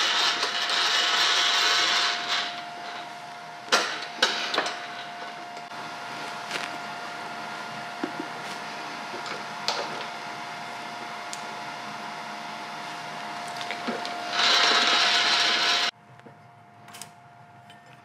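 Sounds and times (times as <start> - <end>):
milling machine humming: 0.0 - 15.9.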